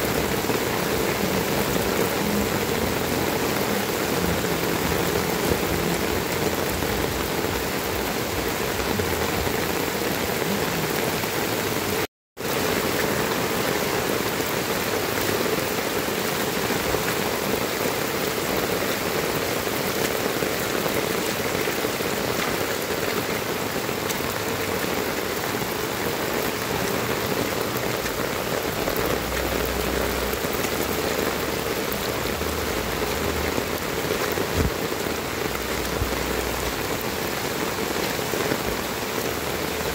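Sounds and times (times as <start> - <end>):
heavy rain on pavement: 0.0 - 39.9
rainwater running: 0.0 - 39.9.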